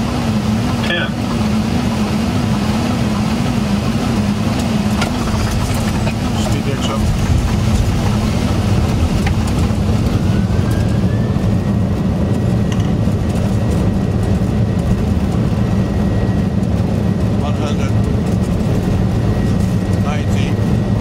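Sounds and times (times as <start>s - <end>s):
aircraft engine and airflow noise: 0.0s - 21.0s.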